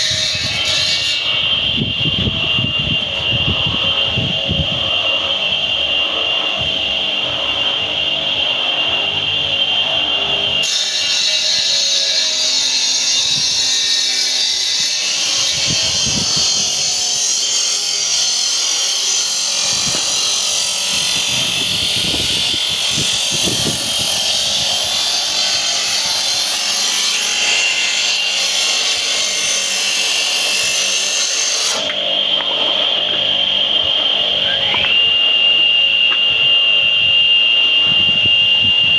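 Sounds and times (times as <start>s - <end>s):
power tool cutting stone: 0.0s - 36.3s.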